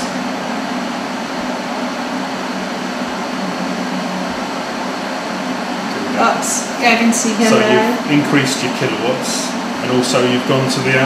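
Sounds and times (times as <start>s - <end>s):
electric kettle heating water: 0.0s - 11.0s.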